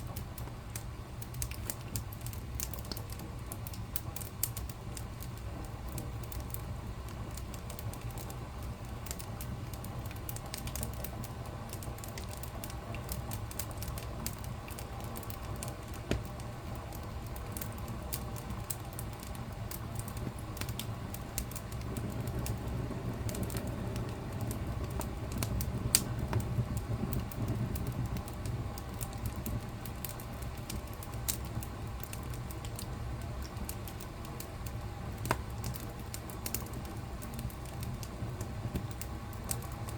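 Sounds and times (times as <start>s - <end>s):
low rumble of flames: 0.0s - 39.9s
wood fire pops and crackles: 0.0s - 39.9s.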